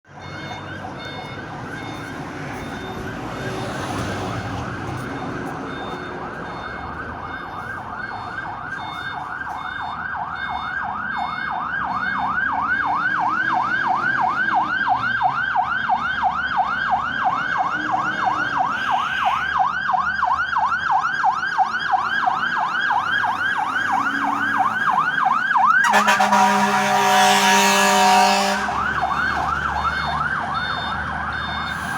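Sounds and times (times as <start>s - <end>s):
fire engine siren yelping: 0.1s - 31.9s.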